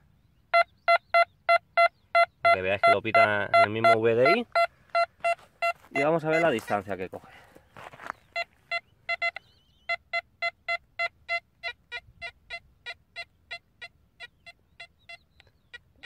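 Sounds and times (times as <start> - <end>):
metal detector beeping: 0.5 - 7.2, 7.9 - 15.7.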